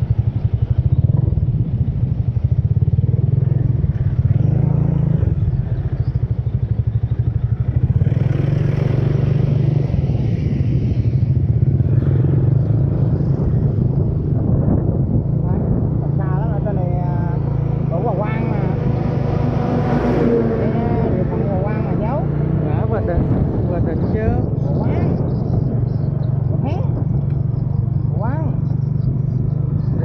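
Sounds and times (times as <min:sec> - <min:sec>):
motorcycle engine droning: 0:00.0 - 0:30.0
road noise: 0:00.0 - 0:30.0.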